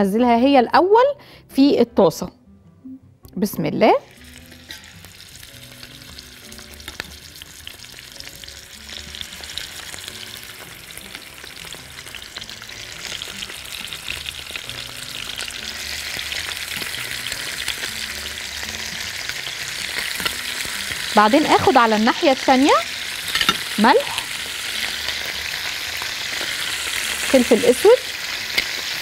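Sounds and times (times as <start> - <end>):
chicken sizzling in a frying pan: 4.1 - 29.0.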